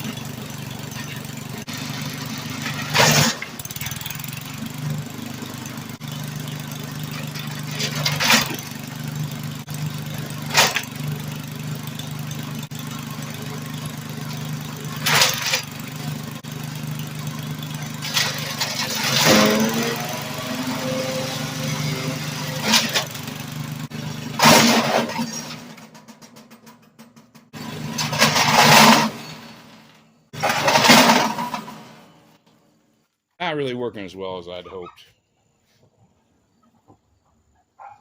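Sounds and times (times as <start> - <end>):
wood chipper engine running: 0.0 - 32.4.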